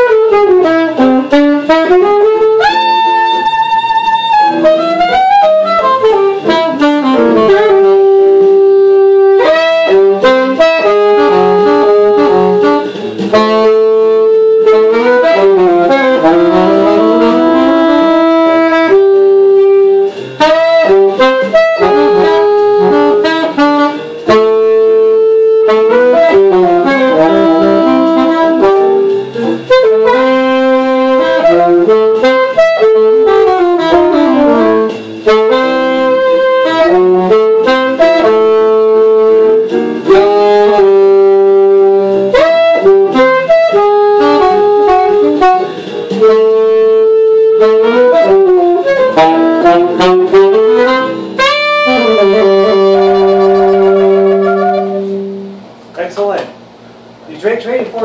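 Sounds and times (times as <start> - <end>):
alto saxophone jazz line: 0.0 - 58.0.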